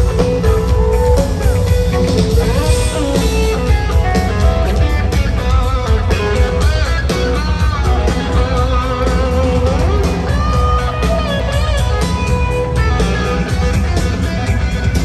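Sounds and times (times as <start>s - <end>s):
live country-rock band: 0.0s - 15.0s.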